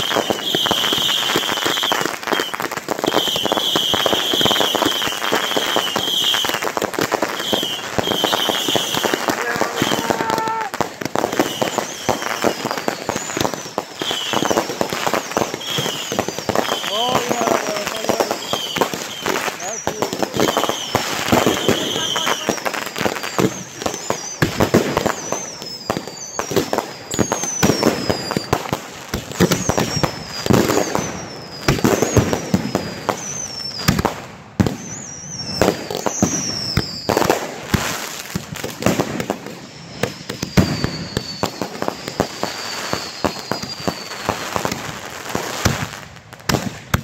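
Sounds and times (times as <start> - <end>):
fireworks cracks and bangs: 0.0 - 47.0
fireworks whistles falling in pitch: 0.0 - 47.0.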